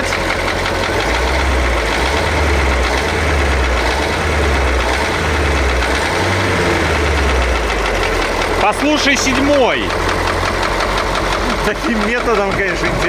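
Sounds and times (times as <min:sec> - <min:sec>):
diesel truck engine running: 0:00.0 - 0:13.0
engine knock: 0:00.0 - 0:13.0.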